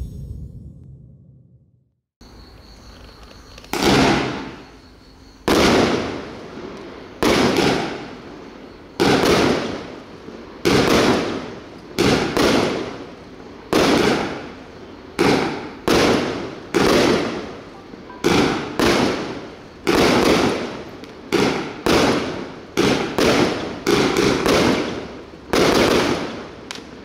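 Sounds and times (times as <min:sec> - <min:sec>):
firework bangs and crackle: 0:03.6 - 0:04.8, 0:05.4 - 0:27.0.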